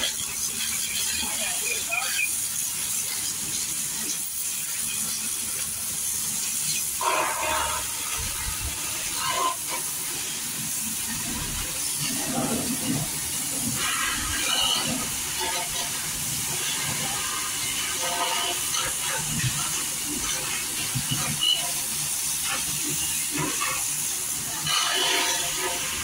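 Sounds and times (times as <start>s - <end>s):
pressurised spray hissing: 0.0s - 26.0s.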